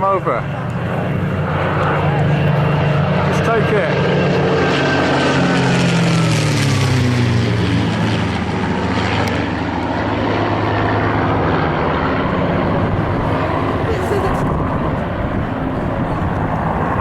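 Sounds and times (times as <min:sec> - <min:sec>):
piston aircraft engines droning overhead: 0:00.0 - 0:17.0.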